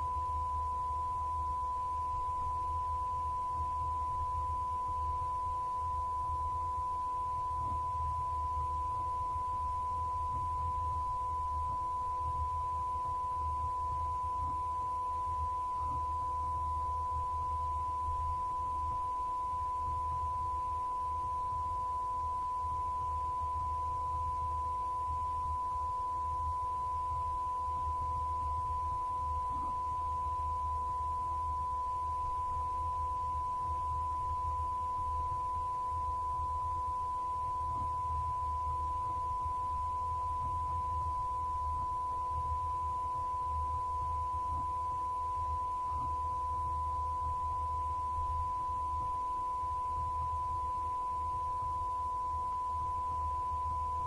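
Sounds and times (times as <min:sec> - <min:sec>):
electronic test tone: 0:00.0 - 0:54.0
faint low hum: 0:00.0 - 0:54.0.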